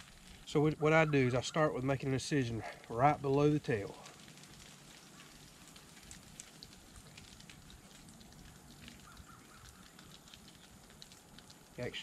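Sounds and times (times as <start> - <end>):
light clicks and crackles: 0.0 - 0.6, 1.8 - 12.0
faint background hiss: 0.0 - 12.0.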